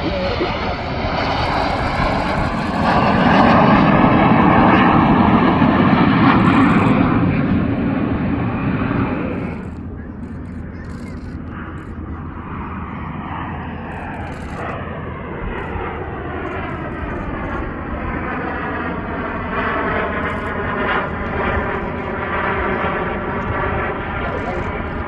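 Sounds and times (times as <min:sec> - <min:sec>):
jets flying past: 0:00.0 - 0:25.0.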